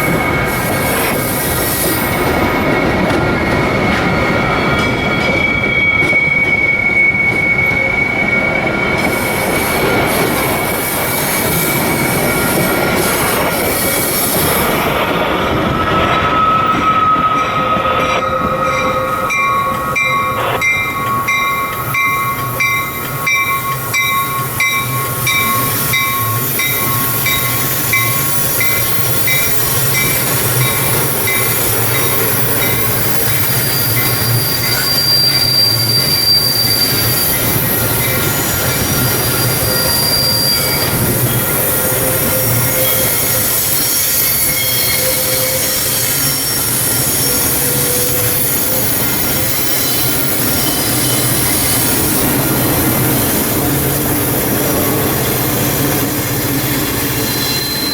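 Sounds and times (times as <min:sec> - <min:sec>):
train wheels squealing on rails: 0:00.0 - 0:57.9.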